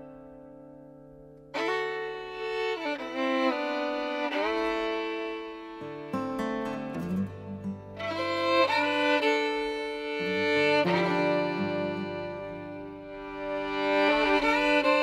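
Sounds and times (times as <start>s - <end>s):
violin playing held notes: 1.6s - 15.0s.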